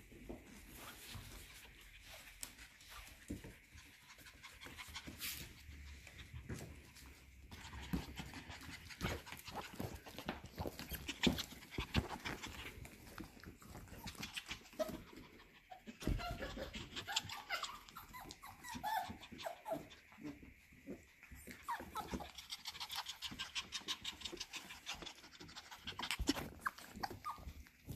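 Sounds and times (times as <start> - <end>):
puppies panting: 0.2 - 27.9.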